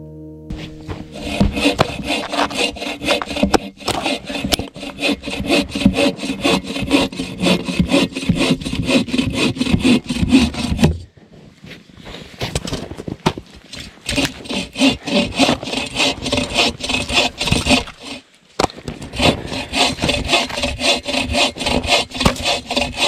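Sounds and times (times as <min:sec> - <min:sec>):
hand saw cutting log: 0:00.5 - 0:11.1, 0:13.7 - 0:23.0.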